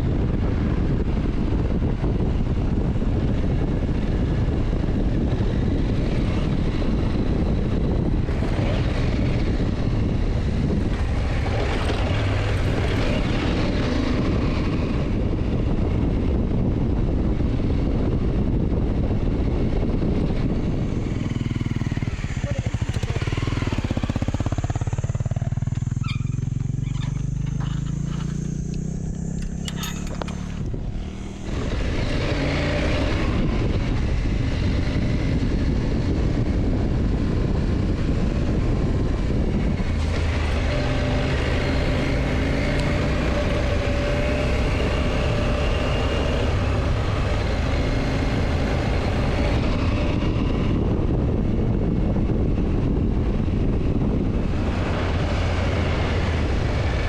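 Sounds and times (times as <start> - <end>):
motorcycle engine: 0.0 - 57.0
wind rush on microphone: 0.0 - 57.0.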